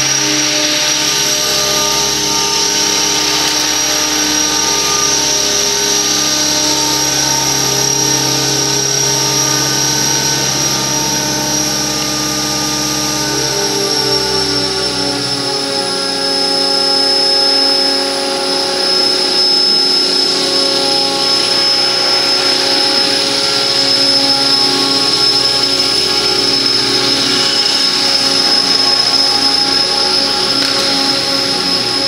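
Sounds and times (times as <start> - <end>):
model helicopter whine: 0.0 - 32.0.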